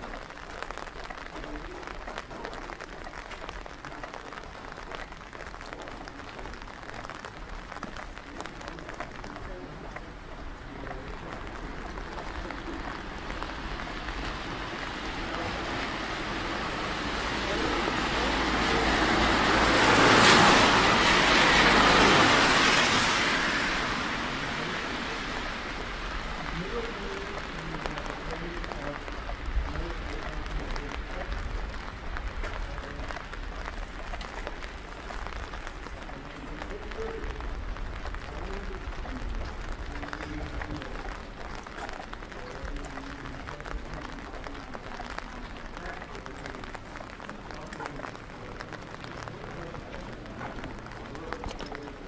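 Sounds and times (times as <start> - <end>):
car tyres swishing on wet road: 0.0 - 52.0
rain pattering on wet pavement: 0.0 - 52.0.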